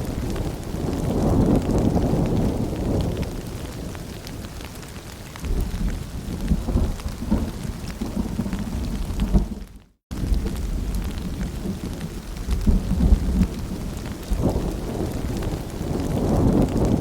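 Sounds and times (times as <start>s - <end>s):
rain pattering: 0.0s - 17.0s
thunder rumbling: 0.0s - 17.0s.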